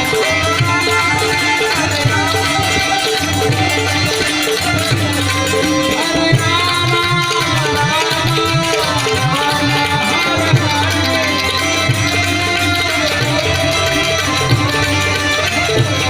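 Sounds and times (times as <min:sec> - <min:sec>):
tabla fast rhythm: 0:00.0 - 0:16.0.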